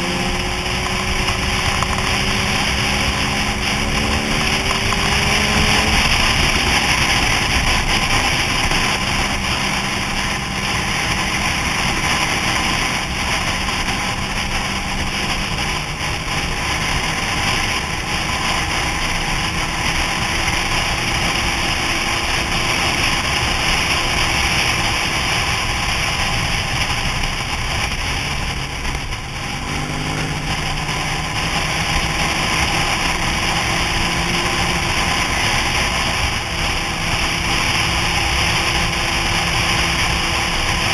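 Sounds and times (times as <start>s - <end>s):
motorcycle engine hum: 0.0s - 40.9s
wind noise rushing: 0.0s - 40.9s.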